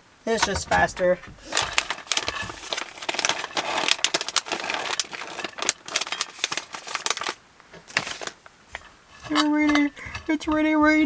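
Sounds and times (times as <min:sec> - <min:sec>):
utensils clicking: 0:00.3 - 0:10.8
food pouch crinkling: 0:00.4 - 0:10.3.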